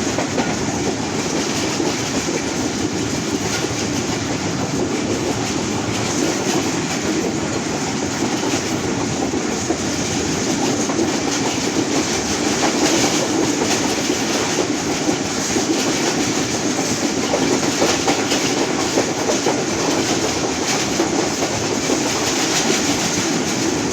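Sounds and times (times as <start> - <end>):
train wheels clattering on rails: 0.0 - 23.9.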